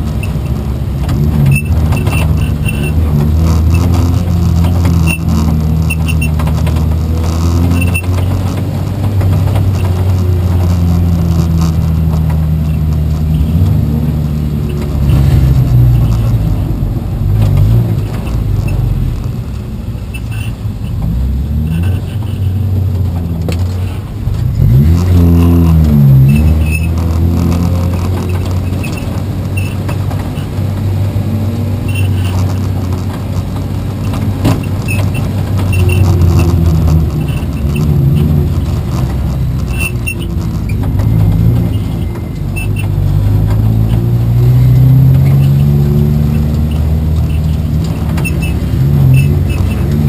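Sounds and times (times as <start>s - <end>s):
race car engine running: 0.0s - 50.0s.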